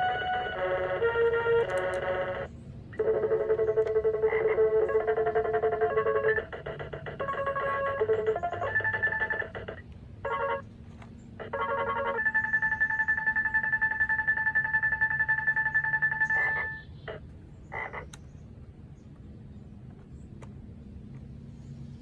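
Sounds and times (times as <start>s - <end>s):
glitchy electronic keyboard tones: 0.0s - 18.2s.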